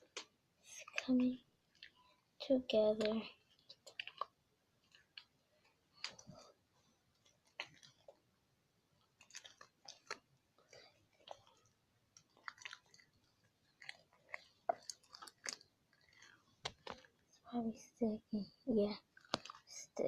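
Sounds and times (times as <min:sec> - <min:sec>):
slime squelching by hand: 0:00.0 - 0:18.2, 0:18.8 - 0:20.0.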